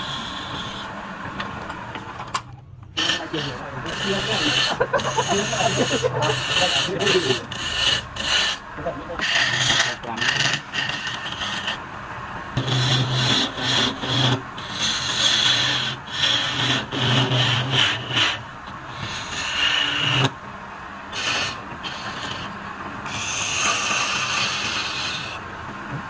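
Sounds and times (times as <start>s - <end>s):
lathe tool scraping wood: 0.0s - 0.9s, 3.0s - 11.8s, 12.6s - 20.4s, 21.1s - 25.4s.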